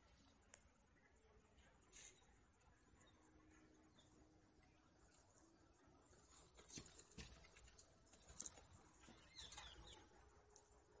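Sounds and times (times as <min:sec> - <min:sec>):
bird chirp: 0:01.2 - 0:11.0.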